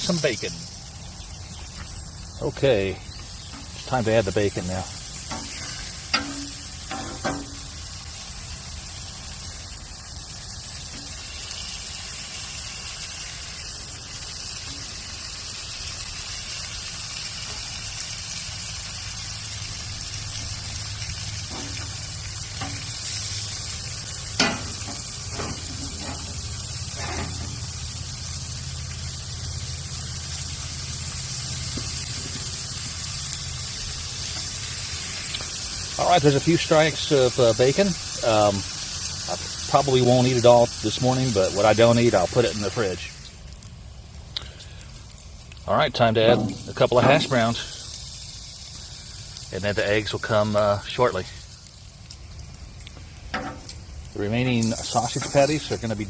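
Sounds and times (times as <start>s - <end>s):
meat sizzling on a griddle: 0.0s - 56.0s.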